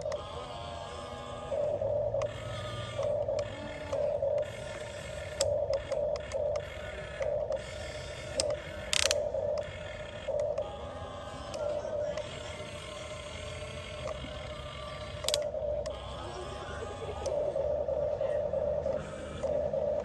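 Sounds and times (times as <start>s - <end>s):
electric gear motors whining: 0.0s - 20.0s.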